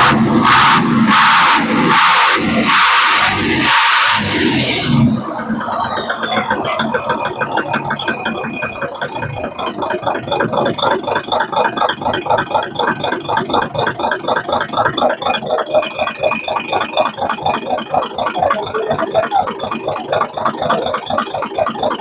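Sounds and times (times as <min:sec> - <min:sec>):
diesel engine clattering: 0:00.0 - 0:22.0.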